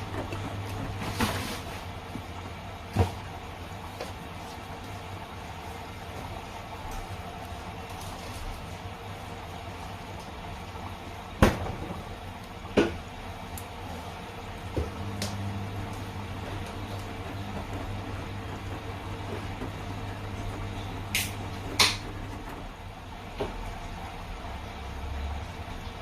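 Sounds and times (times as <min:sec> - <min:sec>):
washing machine hum: 0:00.0 - 0:26.0.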